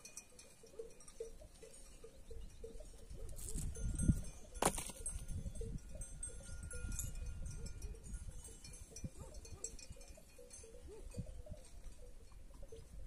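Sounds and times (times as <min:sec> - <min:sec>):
sheep bells clinking faintly: 0:00.0 - 0:13.0.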